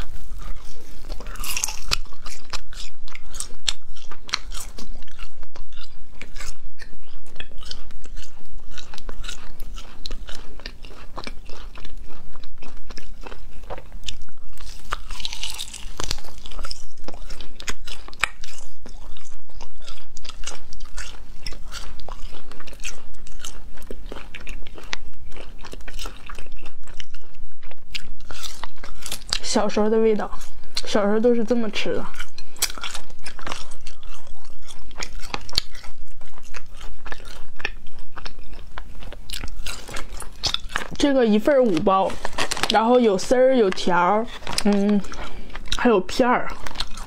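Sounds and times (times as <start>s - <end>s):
chewing crunchy snack: 0.0s - 47.0s.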